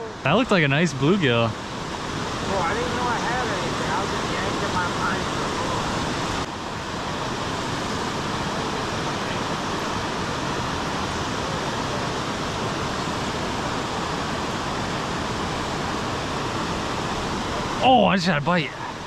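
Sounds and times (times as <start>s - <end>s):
creek current: 0.0s - 19.0s
small waterfall rushing: 0.0s - 19.0s.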